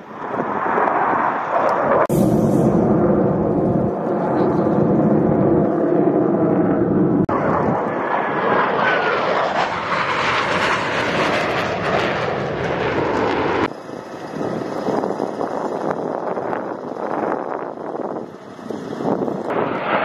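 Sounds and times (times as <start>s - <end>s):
jet engines roaring past: 0.0s - 20.0s
wind: 0.0s - 20.0s.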